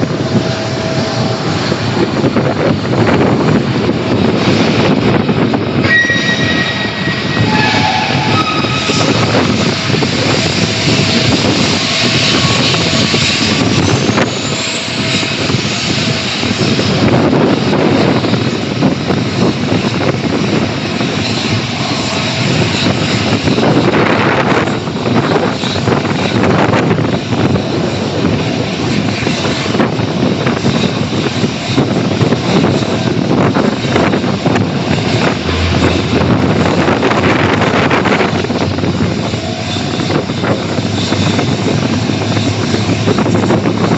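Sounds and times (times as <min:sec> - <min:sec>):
jet engines roaring: 0:00.0 - 0:43.9
whining engine tones: 0:00.0 - 0:43.9.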